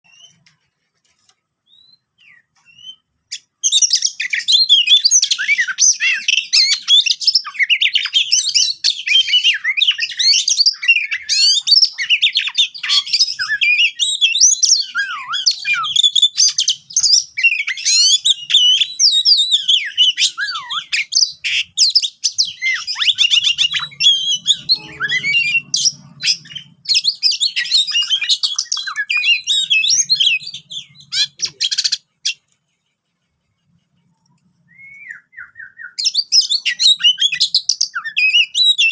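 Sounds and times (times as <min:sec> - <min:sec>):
songbird singing whistles and trills: 0:00.0 - 0:00.5, 0:01.6 - 0:32.4, 0:34.6 - 0:38.9.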